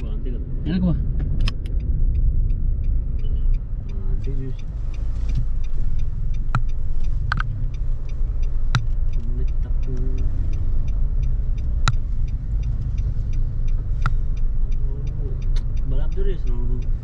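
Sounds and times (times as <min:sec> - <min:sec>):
low rumble of tyres and engine: 0:00.0 - 0:17.0
sharp clicks and rattles: 0:00.0 - 0:17.0.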